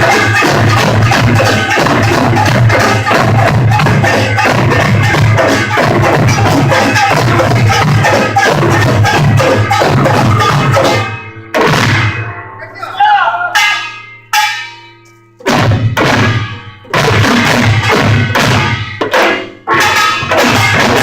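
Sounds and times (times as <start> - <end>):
drums and gongs ensemble: 0.0 - 21.0.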